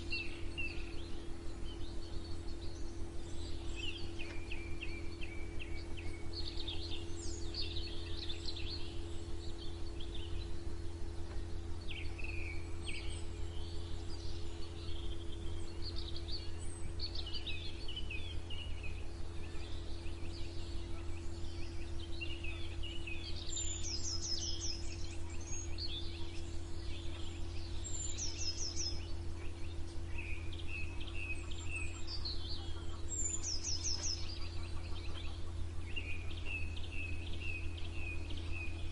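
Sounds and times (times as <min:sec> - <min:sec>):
songbirds singing and chirping: 0:00.0 - 0:38.9
steady low hum: 0:00.0 - 0:38.9.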